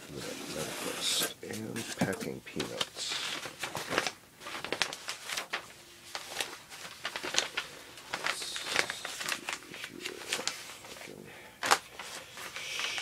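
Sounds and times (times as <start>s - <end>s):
packing material rustling: 0.0s - 13.0s.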